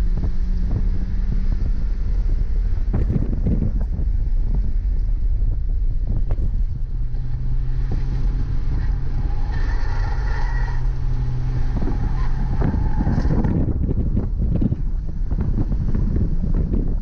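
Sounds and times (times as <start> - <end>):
car engine from inside cabin: 0.0 - 17.0
wind and road noise: 0.0 - 17.0.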